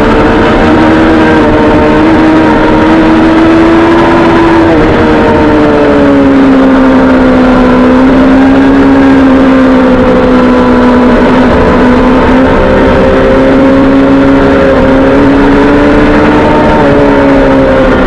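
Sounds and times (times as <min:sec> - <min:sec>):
motorcycle engine running hard: 0:00.0 - 0:18.0.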